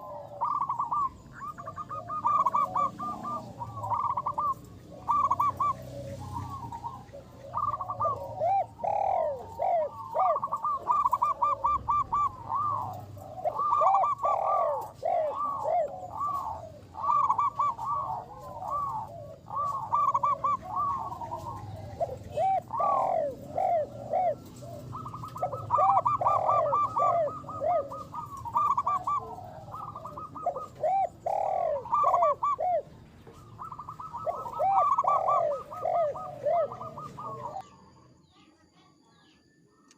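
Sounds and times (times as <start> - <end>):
dove cooing: 0.0 - 38.5.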